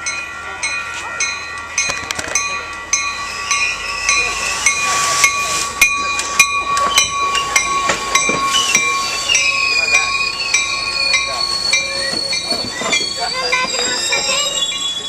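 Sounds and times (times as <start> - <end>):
train rushing: 0.0 - 15.0
warning bell ringing: 0.0 - 15.0.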